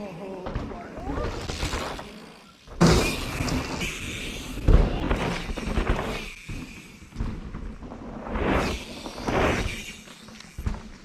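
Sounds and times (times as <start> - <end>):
bike tyres skidding through dirt: 0.0 - 11.0.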